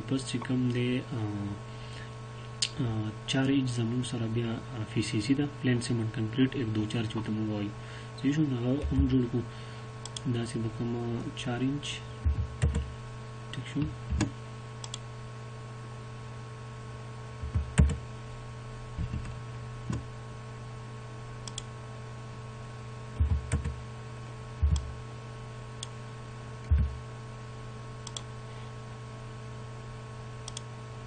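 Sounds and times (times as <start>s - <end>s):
steady electrical hum: 0.0s - 31.0s.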